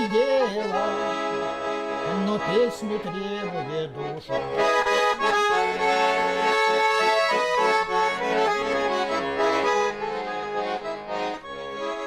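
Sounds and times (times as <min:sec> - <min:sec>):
button accordion folk music: 0:00.0 - 0:12.0.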